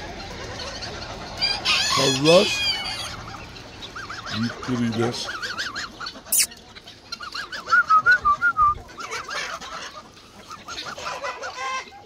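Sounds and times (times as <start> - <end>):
poultry calling: 0.0 - 12.0.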